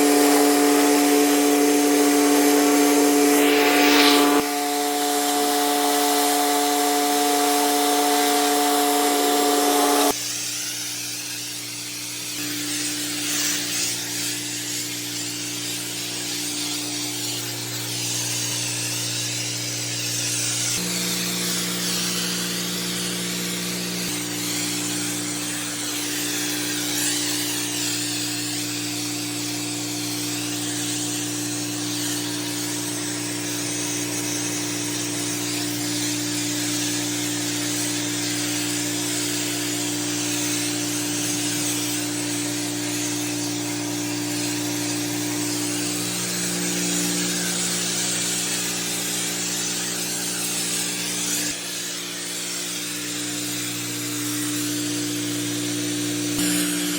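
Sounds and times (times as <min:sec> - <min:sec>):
pressure washer spraying: 0:00.0 - 0:56.9.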